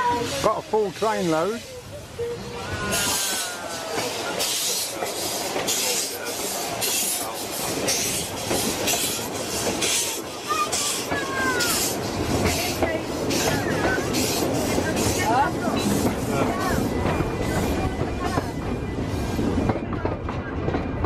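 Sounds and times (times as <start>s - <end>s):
steam locomotive chuffing: 0.0s - 21.0s
train rumbling and rattling on track: 0.0s - 21.0s.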